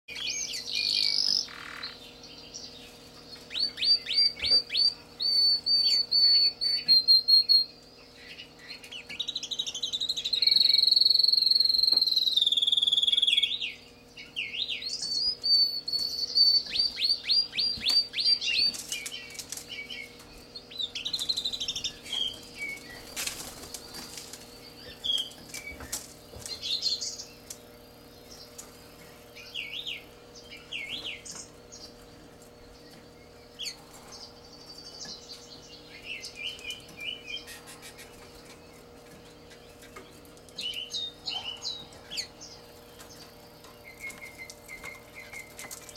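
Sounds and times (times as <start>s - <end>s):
canary singing trills: 0.1s - 45.9s.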